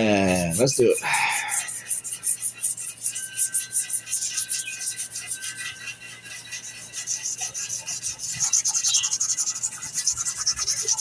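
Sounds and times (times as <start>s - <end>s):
sandpaper scratching on wood: 0.0s - 11.0s.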